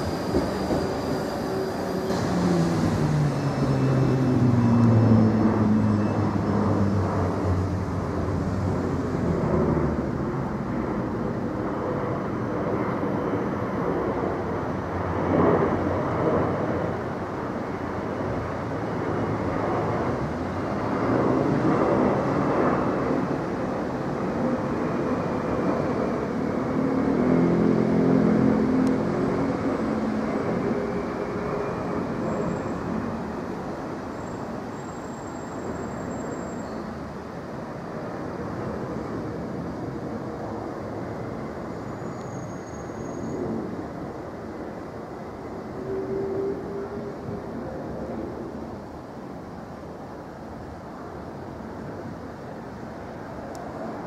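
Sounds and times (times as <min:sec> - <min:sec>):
jet flying overhead: 0:00.0 - 0:54.0.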